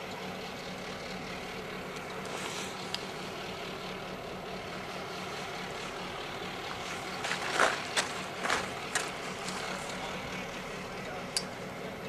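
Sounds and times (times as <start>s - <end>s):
diesel locomotives droning: 0.0s - 12.0s.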